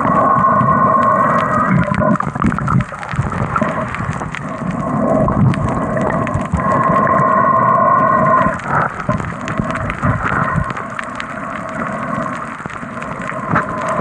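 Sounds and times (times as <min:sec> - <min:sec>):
muffled low underwater rumble: 0:00.0 - 0:14.0
underwater crackle of clicks: 0:00.0 - 0:14.0.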